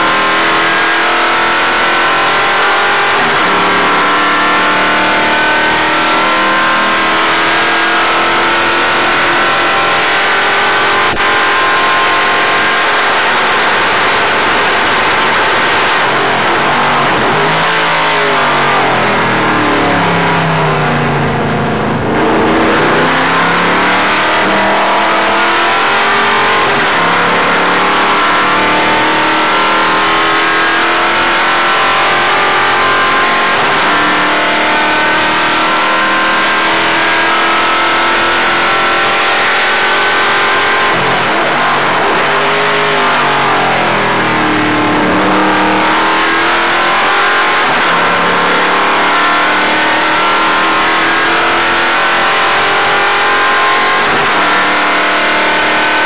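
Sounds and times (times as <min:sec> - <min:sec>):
racing car engine: 0:00.0 - 0:56.0.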